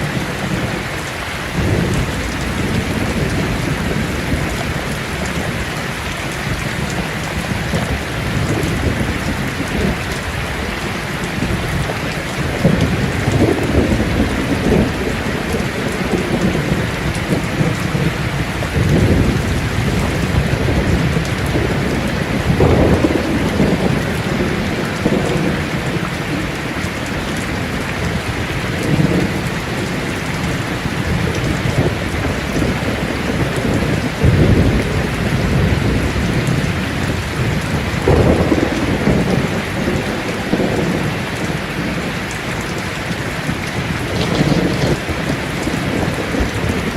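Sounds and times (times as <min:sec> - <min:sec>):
heavy rain on a tin roof: 0:00.0 - 0:46.9
thunder rolling: 0:00.0 - 0:46.9.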